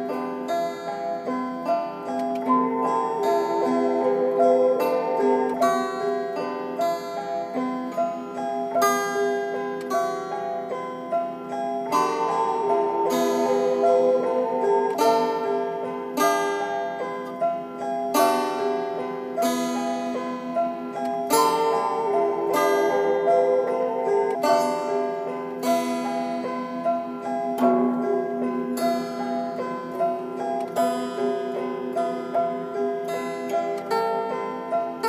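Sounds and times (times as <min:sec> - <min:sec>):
slow plucked string melody: 0:00.0 - 0:35.0.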